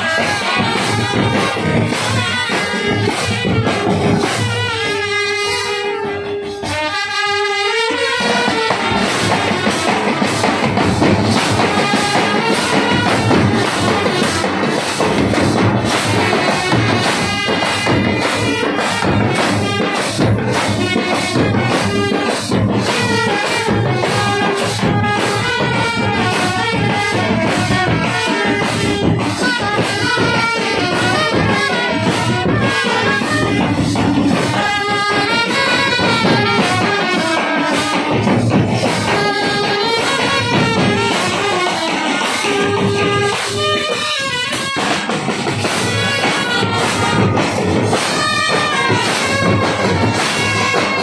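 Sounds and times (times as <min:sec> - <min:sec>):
drums beating fast: 0:00.0 - 0:51.0
trumpets playing tune: 0:00.0 - 0:51.0.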